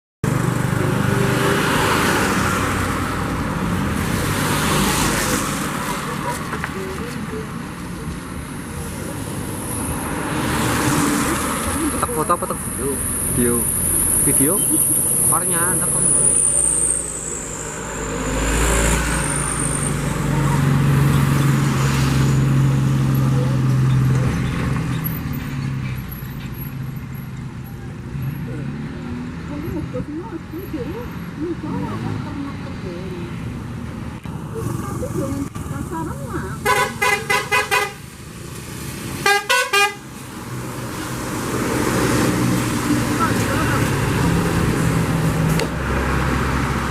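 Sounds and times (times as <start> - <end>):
bus engine drone: 0.2 - 46.9.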